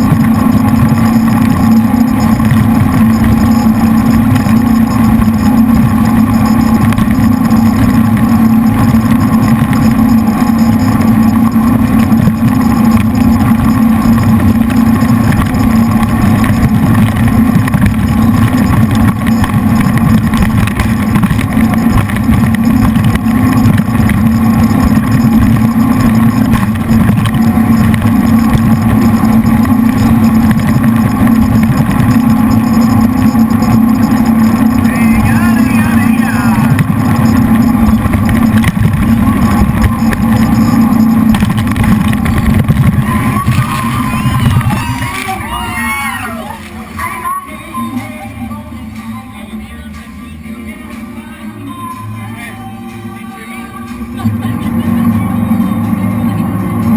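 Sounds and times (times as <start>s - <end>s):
boat engines droning: 0.0s - 56.9s.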